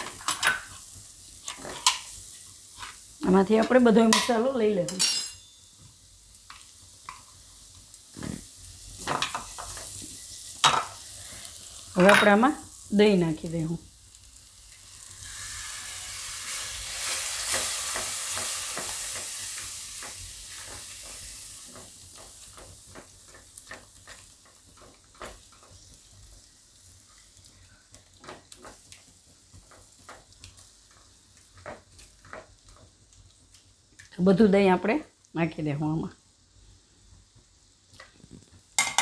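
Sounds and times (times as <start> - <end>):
yogurt sizzling in hot oil: 0.0 - 39.0.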